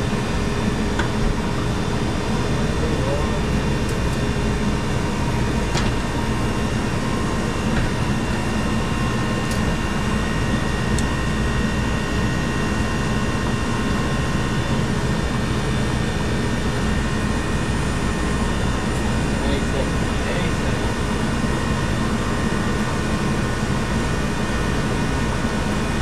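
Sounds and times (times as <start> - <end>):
machinery droning: 0.0 - 26.0.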